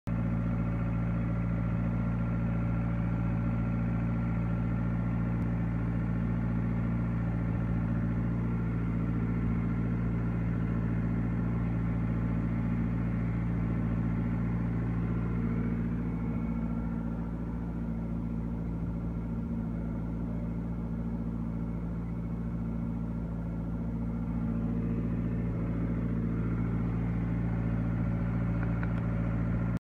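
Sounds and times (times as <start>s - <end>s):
tractor diesel engine under load: 0.1s - 29.8s.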